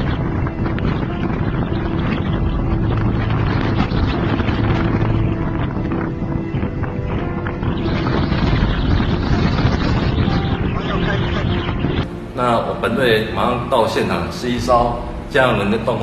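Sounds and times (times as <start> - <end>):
engine drone: 0.0 - 16.0
wind noise on microphone: 0.0 - 16.0.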